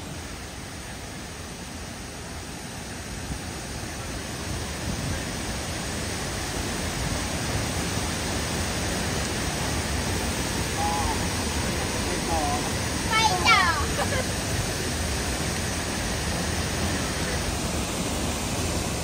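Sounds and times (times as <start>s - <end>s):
waterfall pouring into rock pool: 0.0s - 19.0s.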